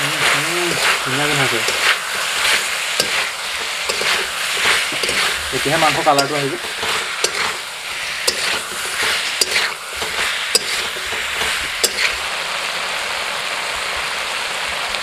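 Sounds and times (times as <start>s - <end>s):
chicken sizzling in a pan: 0.0s - 15.0s
spatula scraping and knocking pan: 0.2s - 12.2s.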